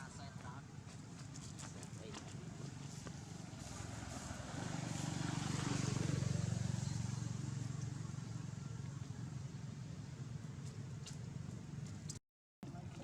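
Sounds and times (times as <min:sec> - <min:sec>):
engine passing by: 0:01.2 - 0:12.1.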